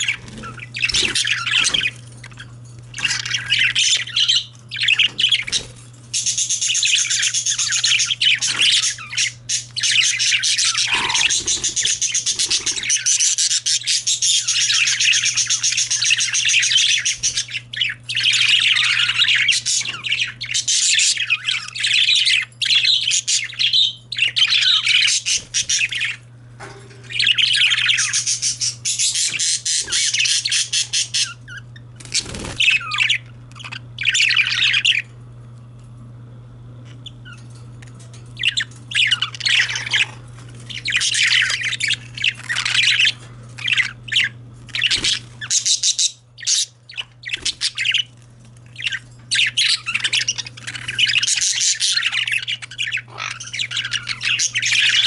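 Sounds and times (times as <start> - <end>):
budgerigars warbling and chattering: 0.0 - 35.2, 36.8 - 55.0.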